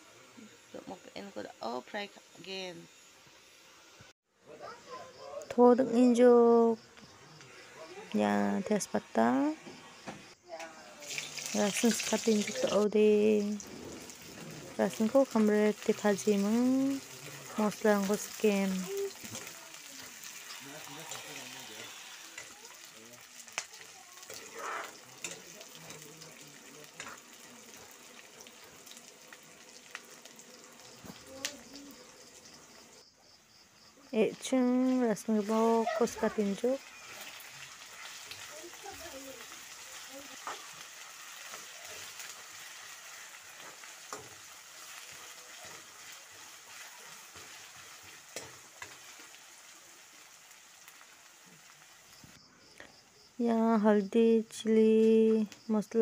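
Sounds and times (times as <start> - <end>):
vegetables sizzling in hot oil: 0.0 - 4.1, 6.0 - 56.0.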